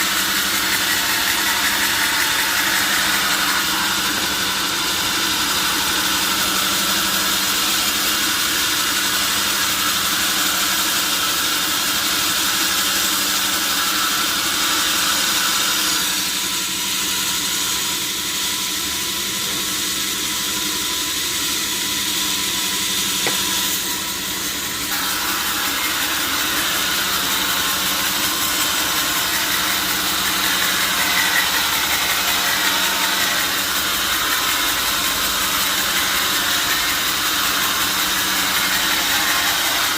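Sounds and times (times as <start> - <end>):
sawmill machinery humming and hissing: 0.0 - 39.9.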